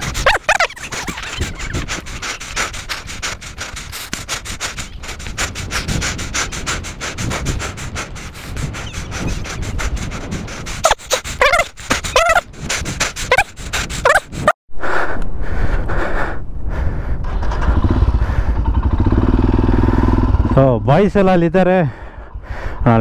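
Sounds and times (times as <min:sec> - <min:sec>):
low wind rumble: 0:00.0 - 0:23.0.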